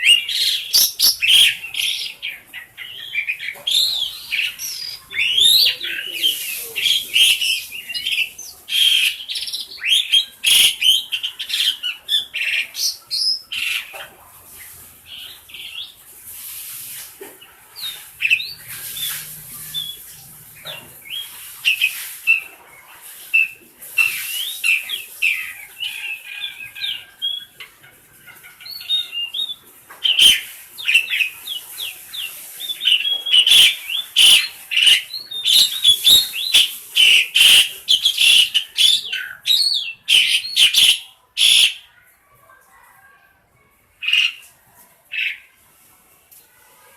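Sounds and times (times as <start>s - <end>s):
starling chattering: 0.0s - 16.0s, 17.2s - 22.6s, 23.3s - 41.9s.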